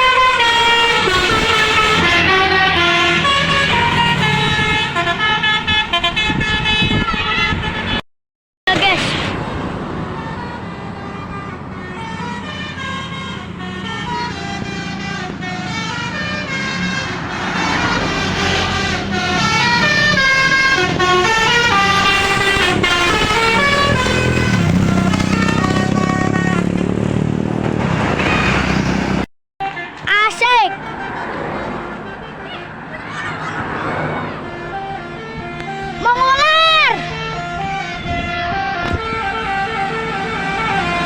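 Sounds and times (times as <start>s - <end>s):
bus engine running: 0.0s - 8.0s, 8.7s - 41.0s
melodic bus horn tune: 0.0s - 8.0s, 9.8s - 27.1s, 29.6s - 41.0s.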